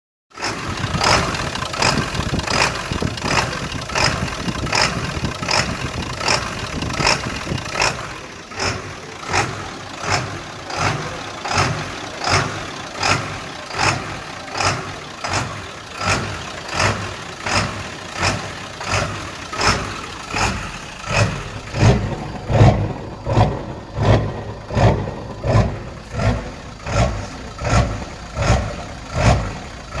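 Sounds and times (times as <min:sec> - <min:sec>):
diesel engine rough idle: 0:00.4 - 0:30.0.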